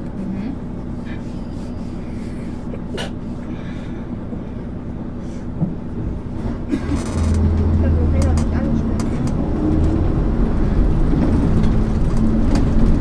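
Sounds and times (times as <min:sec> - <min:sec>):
bus engine drone: 0:00.0 - 0:13.0
road rumble: 0:00.0 - 0:13.0.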